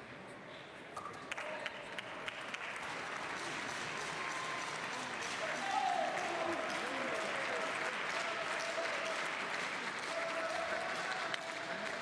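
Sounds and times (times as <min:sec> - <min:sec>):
spectators applauding: 0:01.3 - 0:12.0.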